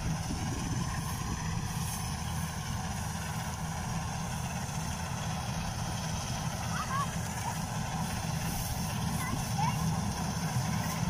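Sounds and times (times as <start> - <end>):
combine harvester drone: 0.0 - 11.0.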